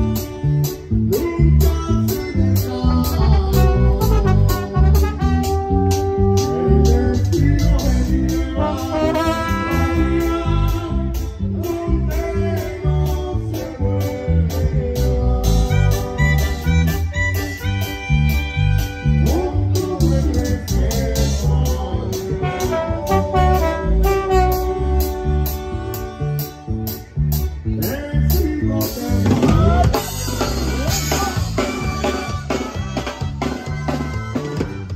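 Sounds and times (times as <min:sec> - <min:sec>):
band music with bass and guitar: 0:00.0 - 0:34.9
drum kit beat: 0:00.0 - 0:34.9.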